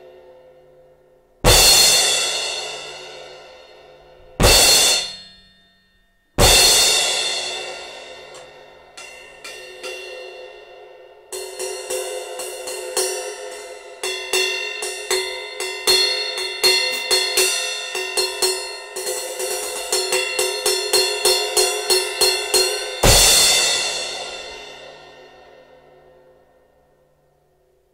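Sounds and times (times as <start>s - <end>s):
cymbal struck with drumstick: 1.4s - 5.7s, 6.4s - 25.5s.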